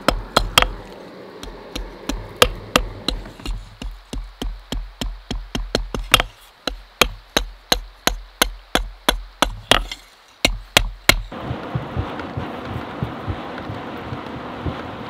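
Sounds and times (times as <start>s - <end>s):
forge fire crackling: 0.0s - 15.0s.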